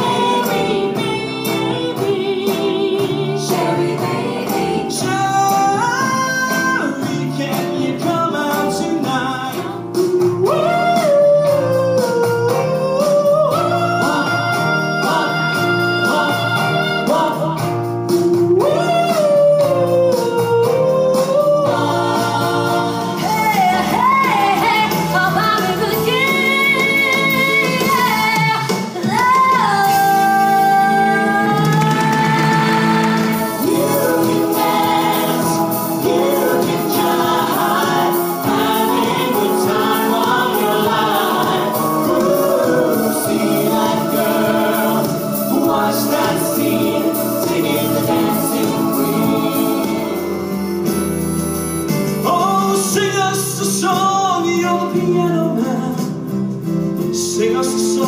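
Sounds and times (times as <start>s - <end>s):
voices singing in harmony: 0.0s - 28.4s, 29.6s - 53.0s
band accompaniment: 0.0s - 58.0s.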